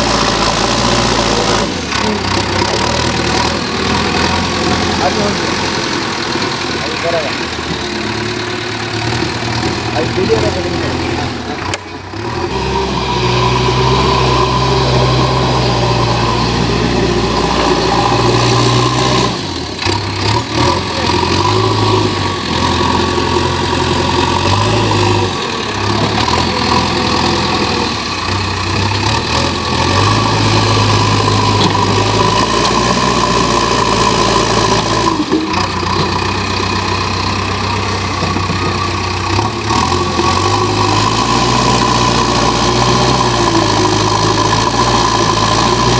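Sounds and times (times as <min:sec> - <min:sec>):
diesel engine working under load: 0:00.0 - 0:45.9.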